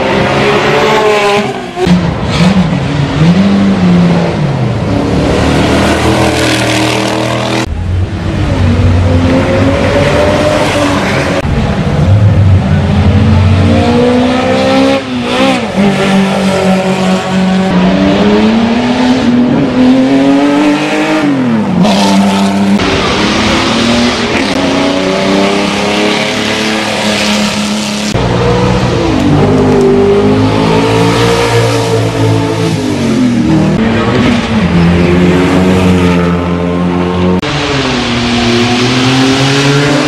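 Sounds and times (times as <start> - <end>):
racing car engines revving: 0.0 - 40.0.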